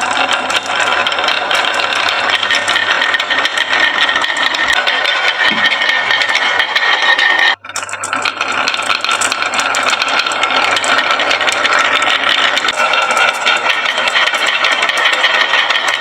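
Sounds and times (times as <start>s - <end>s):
marbles clattering down wooden run: 0.0s - 16.0s.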